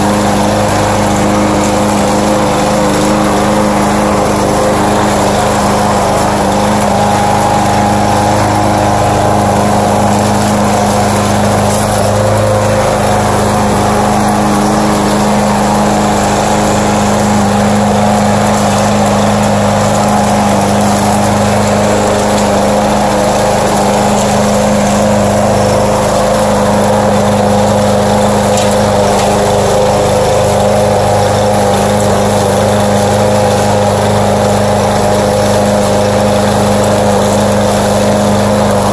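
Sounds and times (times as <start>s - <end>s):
lawn mower running: 0.0s - 38.9s.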